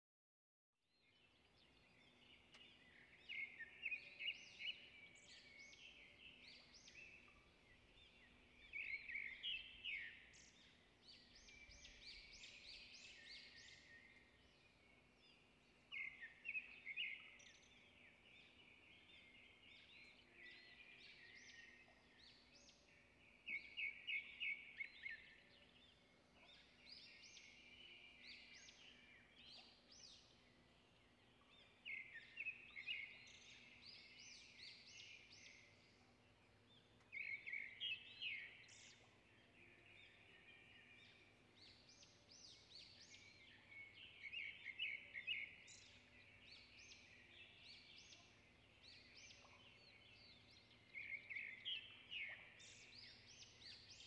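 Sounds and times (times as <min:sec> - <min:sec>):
small birds chirping and trilling: 0:00.9 - 0:54.0.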